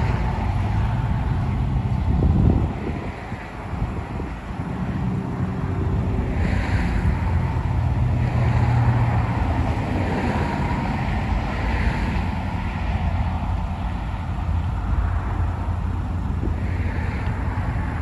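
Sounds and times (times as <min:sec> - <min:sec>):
distant diesel locomotives rumbling: 0:00.0 - 0:18.0
wind buffeting microphone: 0:00.0 - 0:18.0.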